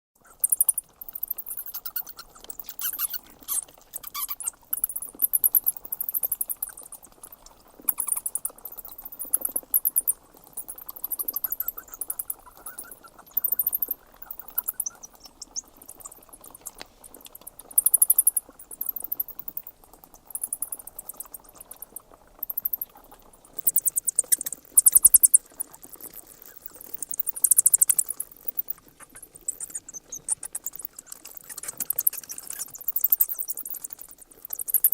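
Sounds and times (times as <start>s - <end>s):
bats squeaking and chattering: 0.2s - 34.9s
faint steady background noise: 0.2s - 34.9s.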